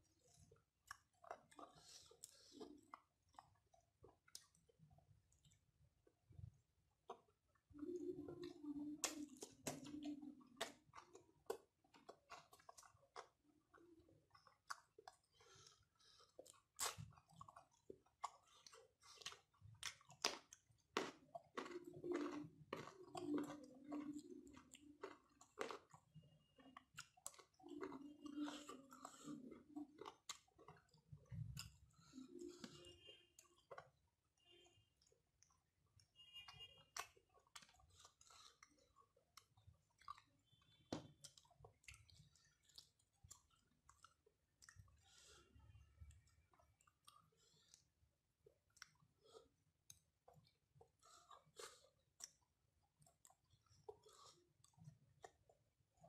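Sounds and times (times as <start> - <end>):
chewing with wet mouth clicks: 0.1 - 56.0.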